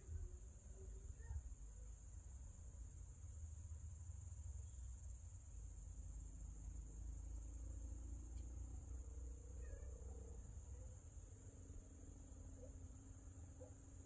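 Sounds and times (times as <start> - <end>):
crickets chirring: 0.0 - 14.0
low steady rumble: 0.0 - 14.0.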